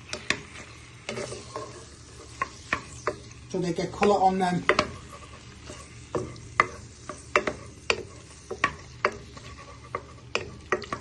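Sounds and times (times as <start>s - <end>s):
chicken sizzling in oil: 0.0s - 11.0s
wooden spoon scraping frying pan: 0.0s - 11.0s.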